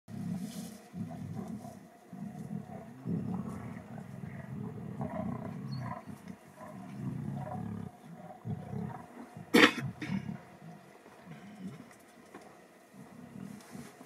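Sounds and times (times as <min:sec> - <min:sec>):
lions growling low: 0:00.1 - 0:14.0.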